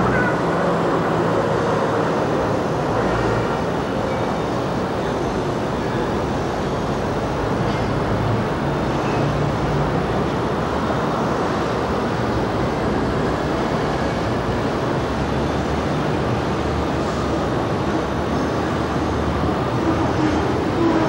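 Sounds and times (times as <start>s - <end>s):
street traffic noise: 0.0s - 21.0s
trams: 0.0s - 21.0s.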